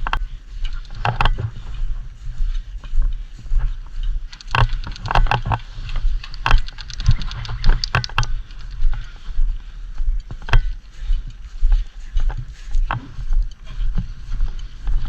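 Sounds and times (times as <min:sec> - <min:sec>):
footsteps walking: 0:00.0 - 0:15.0
gear clicking and scuffing: 0:00.0 - 0:15.0.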